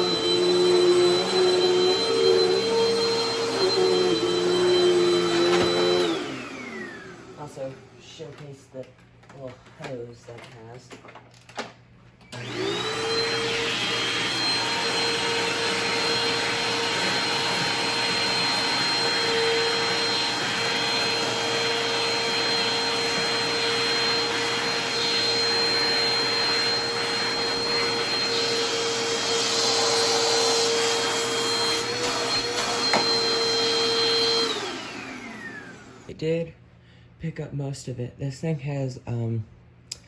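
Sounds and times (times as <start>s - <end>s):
vacuum cleaner motor whining: 0.0s - 8.5s, 12.2s - 36.2s.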